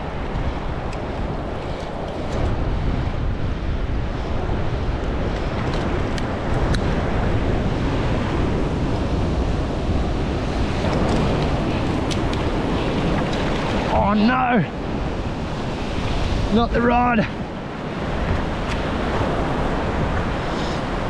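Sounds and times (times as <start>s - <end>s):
surf breaking over rocks: 0.0s - 21.0s
wind buffeting microphone: 0.0s - 21.0s.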